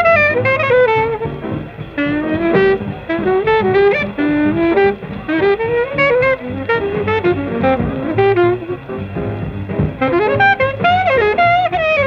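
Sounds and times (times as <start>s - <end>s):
alto saxophone running notes: 0.0s - 12.0s
bass and drums: 0.0s - 12.0s.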